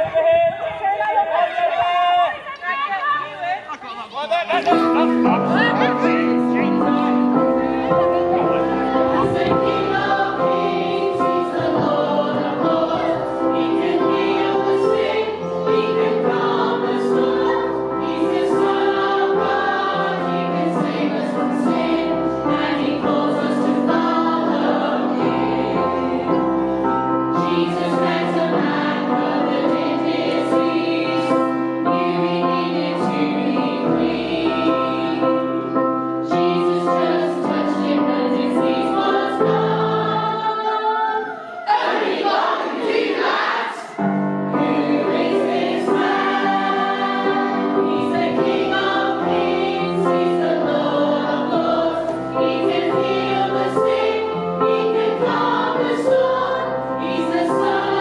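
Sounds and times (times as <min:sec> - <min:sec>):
upbeat song with group vocals: 0:07.9 - 0:26.5, 0:27.3 - 0:35.7, 0:36.3 - 0:58.0.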